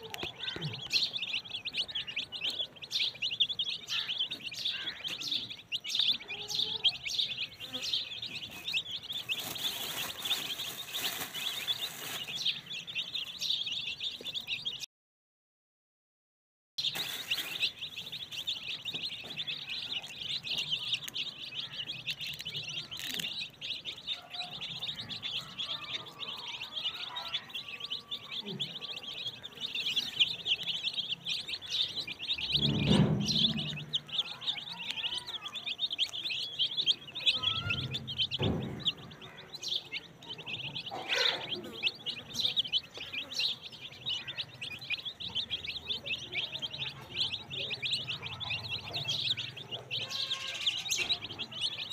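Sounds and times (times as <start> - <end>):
chicks peeping: 0.0 - 14.9, 16.8 - 51.9.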